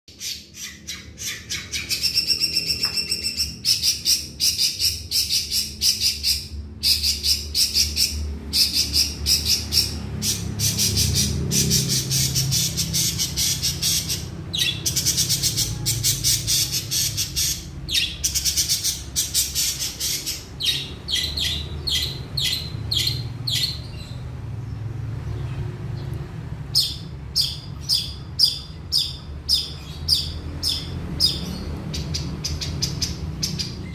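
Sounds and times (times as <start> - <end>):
bird singing chattering song: 0.1 - 33.9.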